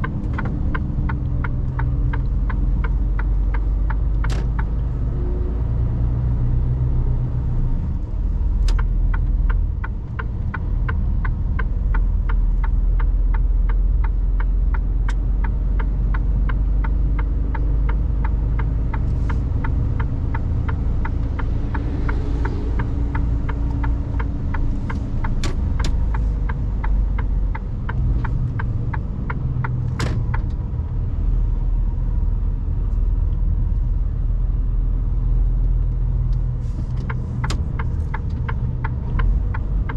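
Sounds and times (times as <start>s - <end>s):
diesel truck engine running: 0.0s - 5.2s, 7.6s - 39.9s
turn signal ticking: 0.0s - 6.8s, 7.6s - 39.9s.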